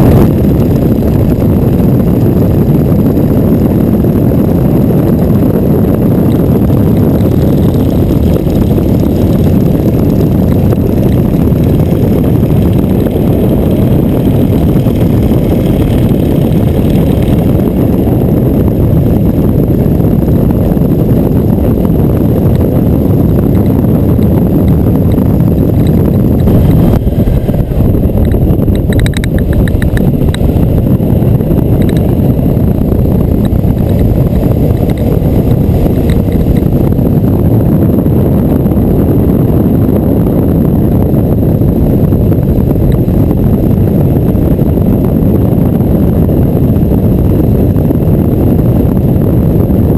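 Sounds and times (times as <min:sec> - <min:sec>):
biplane engine in flight: 0:00.0 - 0:49.9.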